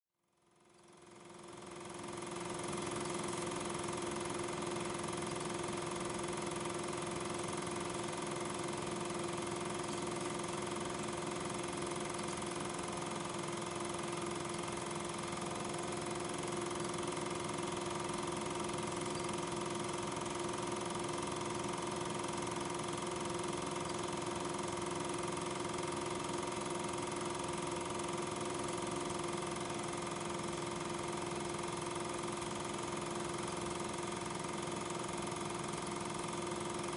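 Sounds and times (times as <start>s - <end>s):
film projector humming: 0.5s - 36.9s.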